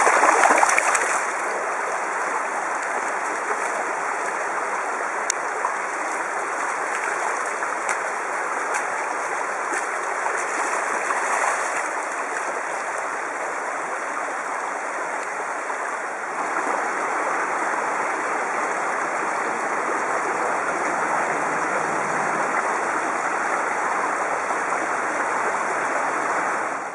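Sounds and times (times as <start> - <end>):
creek water rushing over stones: 0.0 - 26.9.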